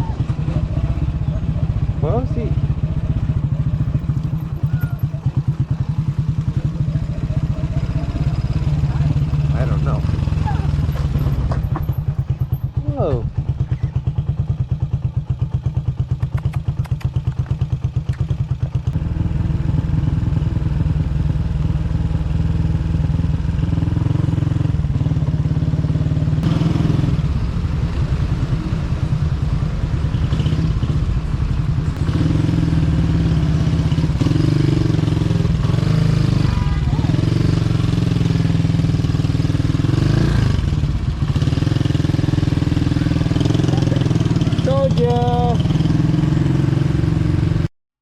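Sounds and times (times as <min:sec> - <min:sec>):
motorcycle engine: 0:00.0 - 0:47.7.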